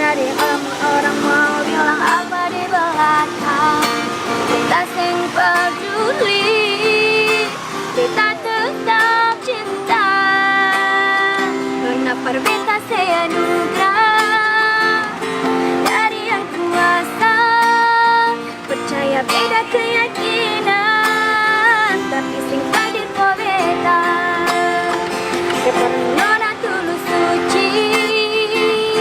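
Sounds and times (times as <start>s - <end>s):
instrumental backing: 0.0s - 29.0s
woman singing with vibrato: 0.0s - 29.0s.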